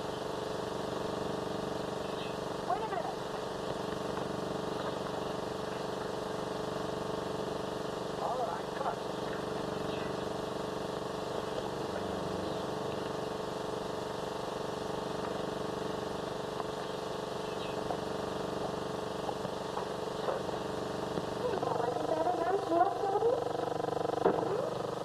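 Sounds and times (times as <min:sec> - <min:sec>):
old film soundtrack hum and hiss: 0:00.0 - 0:25.0.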